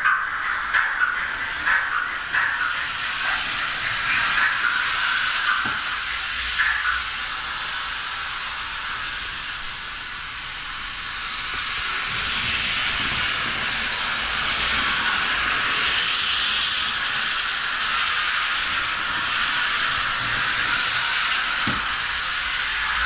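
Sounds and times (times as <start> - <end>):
model train whirring hiss: 0.0 - 23.0.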